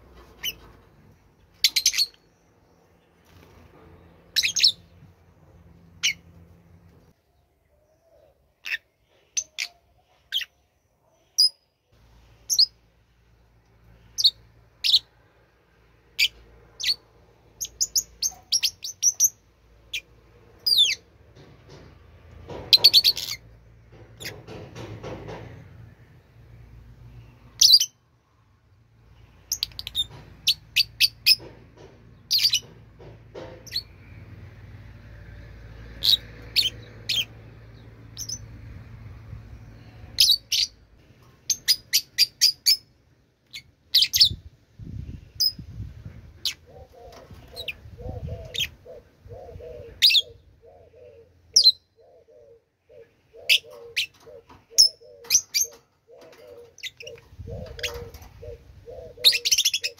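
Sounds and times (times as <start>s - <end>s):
birds chirping: 0.2s - 11.8s, 12.4s - 28.0s, 28.9s - 34.8s, 35.6s - 59.9s.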